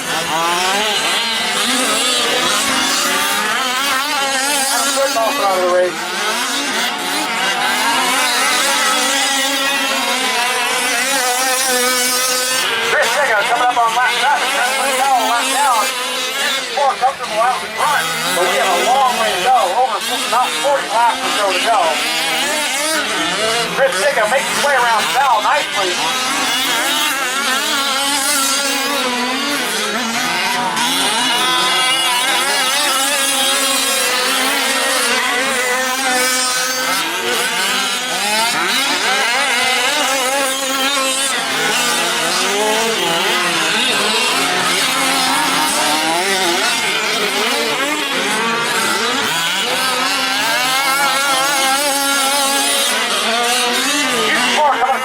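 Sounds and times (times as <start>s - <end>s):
rc truck engines buzzing: 0.0s - 55.0s.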